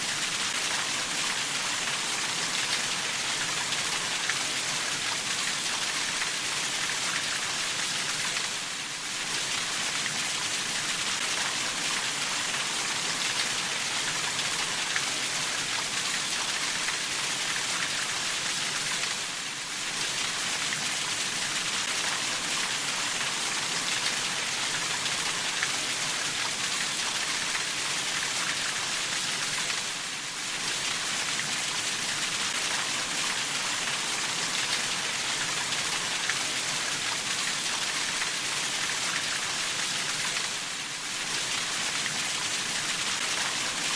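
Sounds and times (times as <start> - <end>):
rain pattering on a surface: 0.1 - 43.9.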